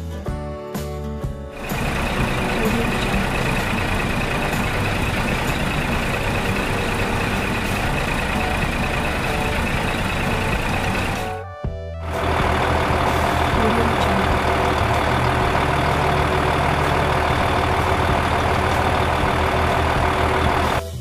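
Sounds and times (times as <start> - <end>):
tractor engine running: 1.5 - 11.4, 12.0 - 21.0.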